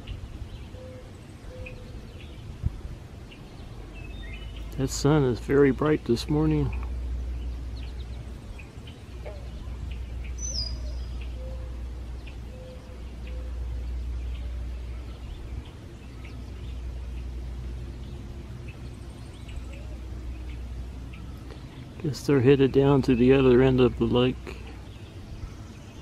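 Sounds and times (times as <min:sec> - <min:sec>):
birds chirping: 0:00.0 - 0:26.0
steady low rumble: 0:00.0 - 0:26.0.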